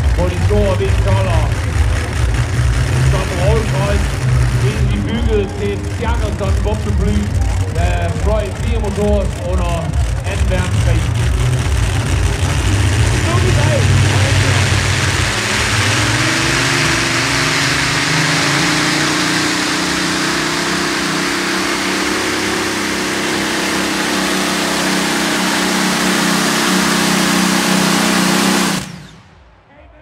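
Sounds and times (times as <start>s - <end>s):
tractor engines running loud: 0.0s - 29.4s.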